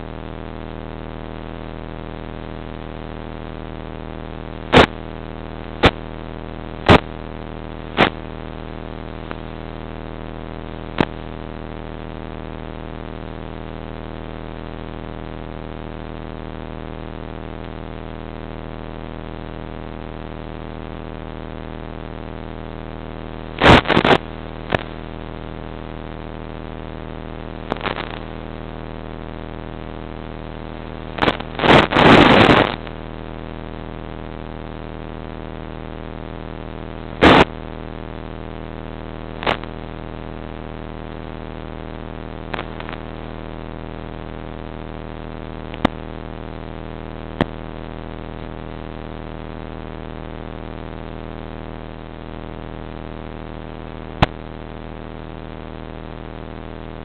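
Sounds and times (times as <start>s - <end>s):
static crackle: 0.0s - 57.0s
steady electrical hum: 0.0s - 57.0s.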